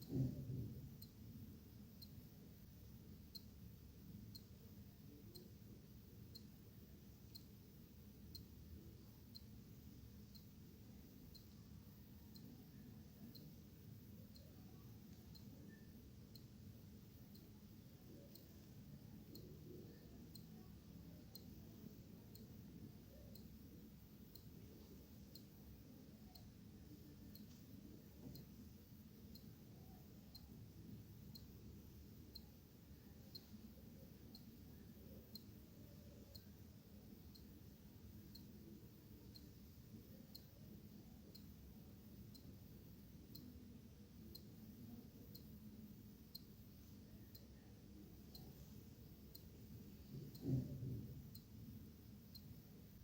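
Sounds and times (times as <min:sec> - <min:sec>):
low room noise: 0:00.0 - 0:53.0.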